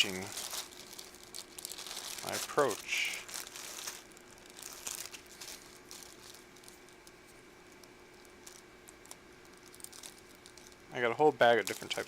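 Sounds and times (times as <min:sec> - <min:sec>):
faint steady hum: 0:00.0 - 0:12.0
plastic bag crinkling: 0:00.0 - 0:12.0.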